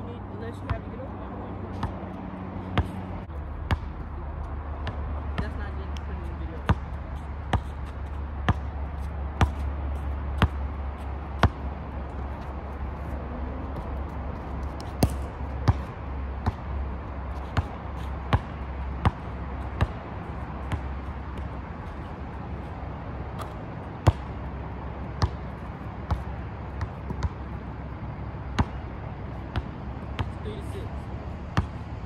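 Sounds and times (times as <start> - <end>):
basketball bouncing on asphalt: 0.4 - 32.0.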